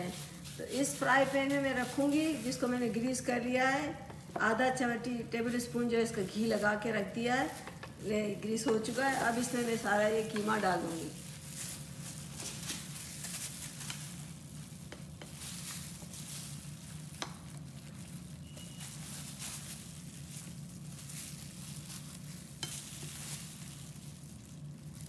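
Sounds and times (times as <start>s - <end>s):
plastic glove crinkling: 0.0s - 25.0s
steady hiss and hum: 0.0s - 25.0s.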